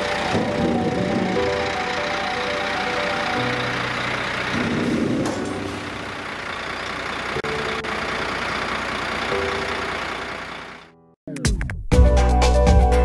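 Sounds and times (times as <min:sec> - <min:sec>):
lorry engine running: 0:00.0 - 0:11.1.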